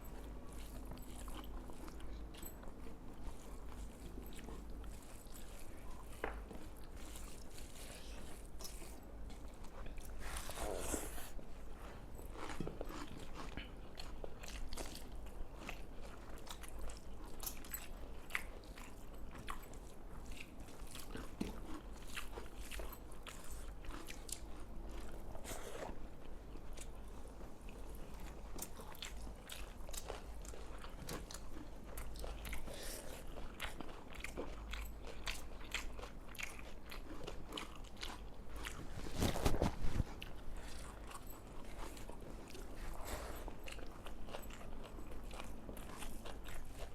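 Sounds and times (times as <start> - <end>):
chewing and crunching food: 0.0 - 46.9.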